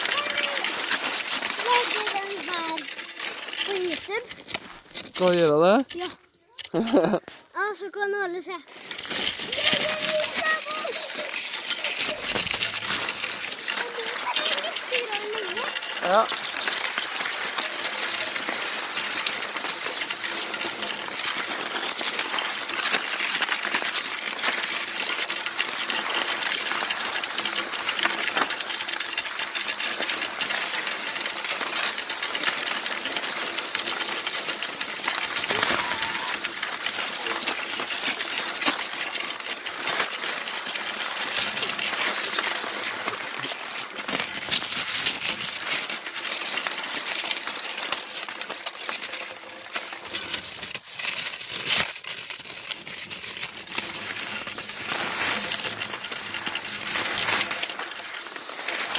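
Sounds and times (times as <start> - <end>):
skis scraping on packed snow: 0.0 - 58.9
ski pole tips clicking: 8.7 - 58.9.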